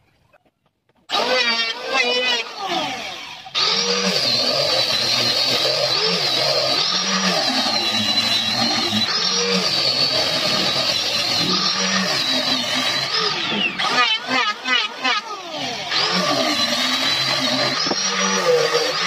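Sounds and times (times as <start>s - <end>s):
power tool running: 1.1s - 19.0s.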